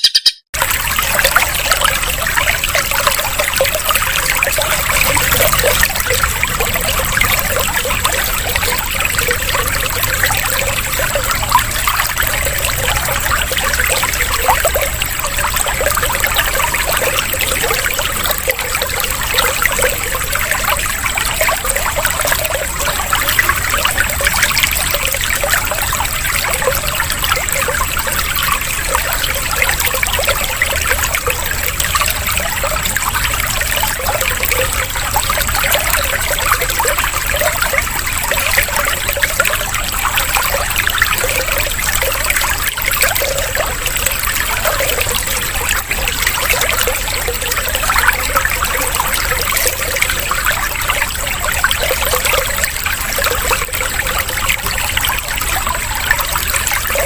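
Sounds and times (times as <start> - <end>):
water trickling and splashing: 0.1 - 57.0.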